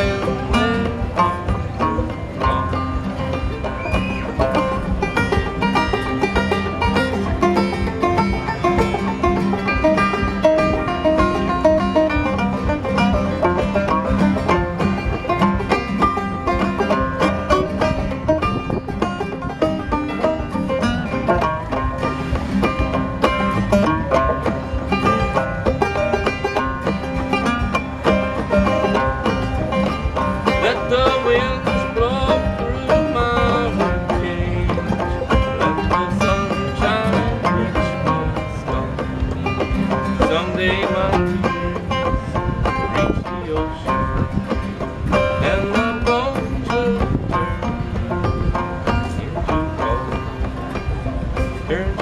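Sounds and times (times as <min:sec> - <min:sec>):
clawhammer banjo playing: 0:00.0 - 0:52.0.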